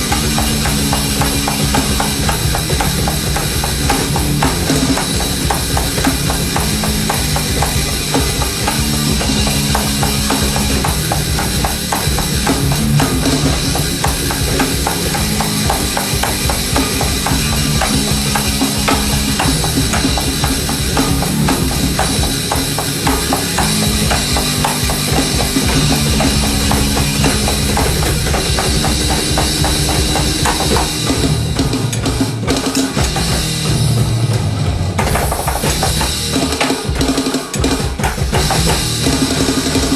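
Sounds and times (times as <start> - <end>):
held bass notes: 0.0 - 37.1, 37.9 - 39.9
drum kit playing fast: 0.0 - 39.9.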